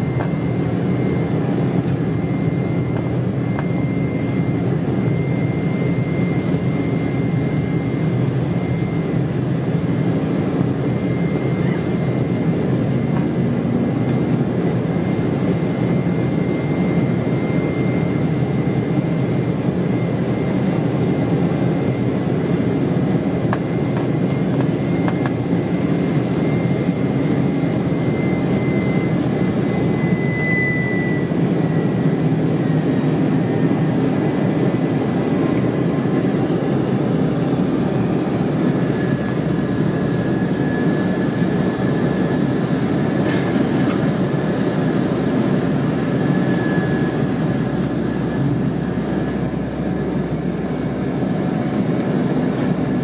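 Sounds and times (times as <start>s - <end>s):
airliner cabin low rumble: 0.0s - 53.0s
thin steady whine: 0.0s - 53.0s.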